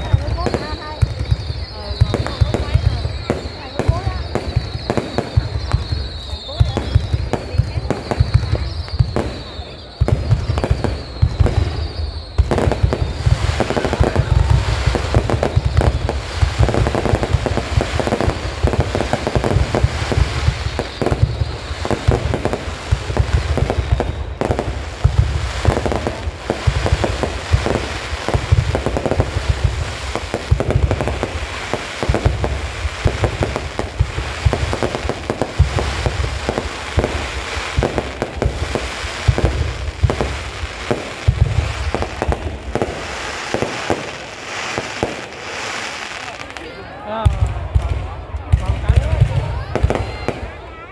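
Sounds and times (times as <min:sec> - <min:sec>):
fireworks banging: 0:00.0 - 0:50.9.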